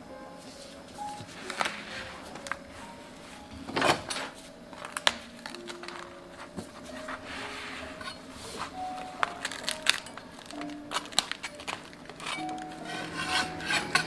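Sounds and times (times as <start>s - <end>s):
crepe rustling: 0.4s - 14.0s.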